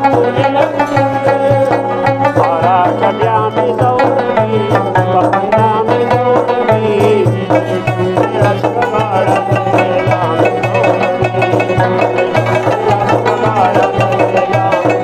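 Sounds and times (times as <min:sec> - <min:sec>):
frame drum beat: 0:00.0 - 0:15.0
harmonium melody: 0:00.0 - 0:15.0
plucked rabab: 0:00.0 - 0:15.0.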